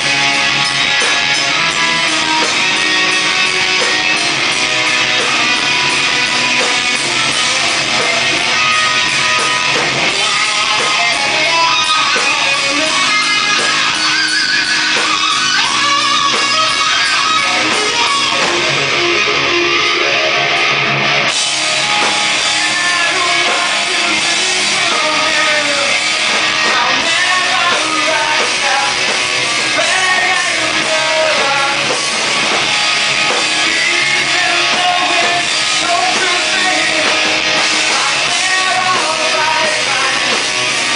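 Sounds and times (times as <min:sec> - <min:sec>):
live rock band playing: 0:00.0 - 0:40.9
person singing: 0:05.1 - 0:20.4, 0:22.3 - 0:32.6, 0:33.2 - 0:40.9.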